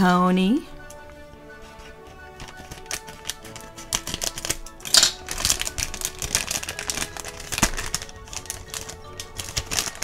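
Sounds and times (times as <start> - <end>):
soft background music: 0.0 - 10.0
plastic bag crinkling: 1.7 - 10.0.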